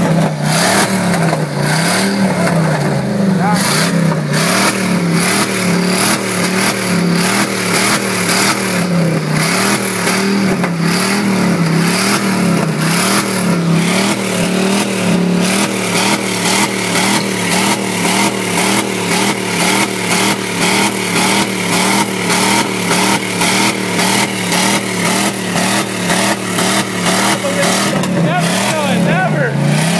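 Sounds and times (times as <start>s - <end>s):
engine bouncing off rev limiter: 0.0s - 29.9s.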